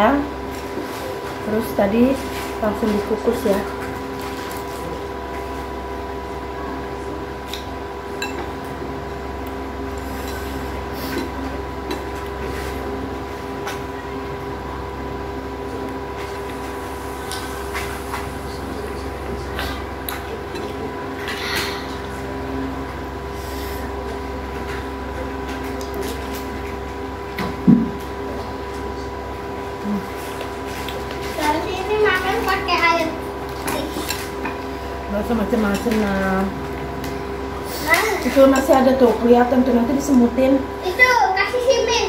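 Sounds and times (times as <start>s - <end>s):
steady mechanical hum: 0.0s - 42.0s
soft eating sounds: 0.2s - 41.0s.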